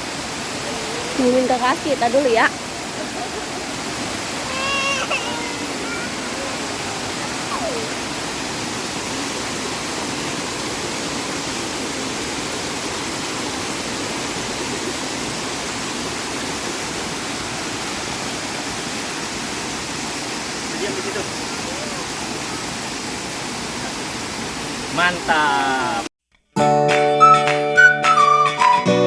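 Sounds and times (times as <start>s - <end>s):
waterfall rushing: 0.0s - 26.1s.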